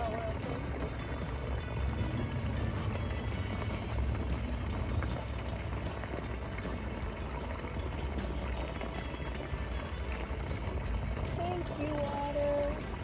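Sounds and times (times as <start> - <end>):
water pouring into a container: 0.0 - 13.0.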